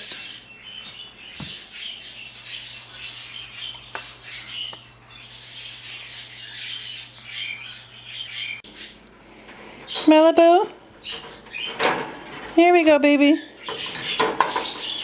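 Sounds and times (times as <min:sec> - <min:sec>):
parrots chirping and squawking: 0:00.0 - 0:15.0.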